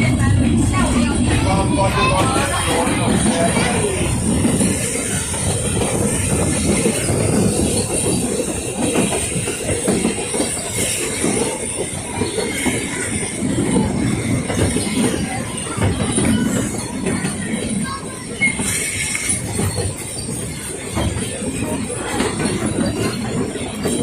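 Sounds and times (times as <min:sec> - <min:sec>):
train wheels rumbling and rattling: 0:00.0 - 0:24.0
wheels squealing on rail: 0:00.0 - 0:24.0.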